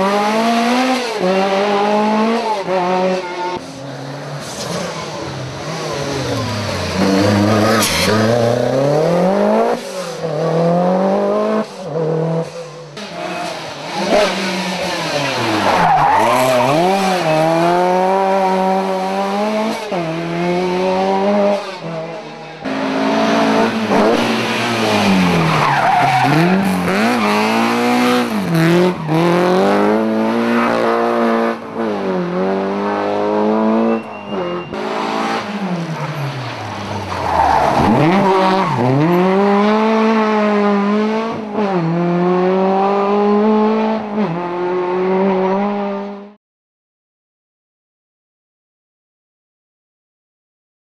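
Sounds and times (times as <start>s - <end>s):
rally car engines revving: 0.0s - 46.4s.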